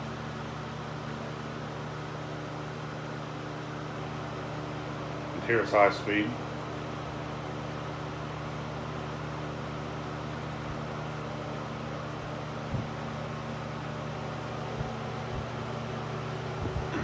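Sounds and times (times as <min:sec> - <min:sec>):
box fan rushing air: 0:00.0 - 0:17.0
low motor hum: 0:00.0 - 0:17.0.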